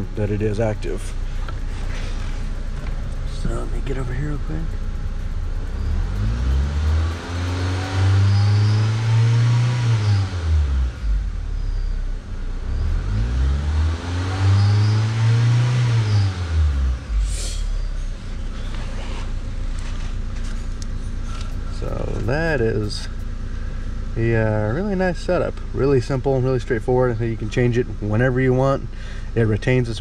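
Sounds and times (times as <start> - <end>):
car engine revving from idle: 0.0 - 30.0.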